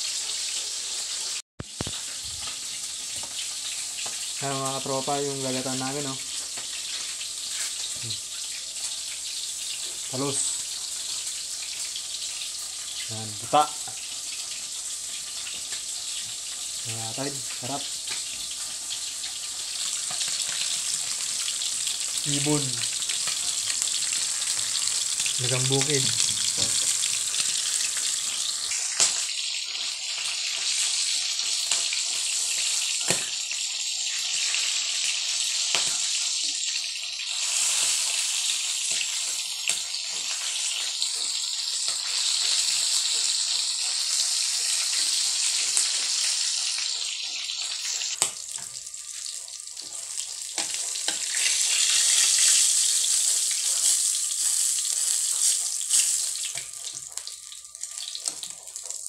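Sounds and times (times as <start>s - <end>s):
meat sizzling in hot oil: 0.0s - 59.0s.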